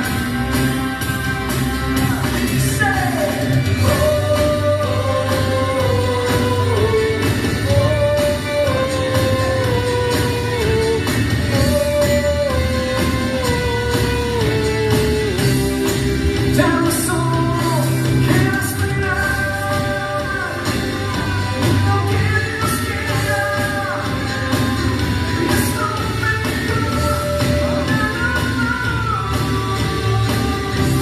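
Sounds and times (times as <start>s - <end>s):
bass guitar: 0.0s - 31.0s
drums: 0.0s - 31.0s
electric guitar: 0.0s - 31.0s
sung sliding melody: 0.0s - 31.0s.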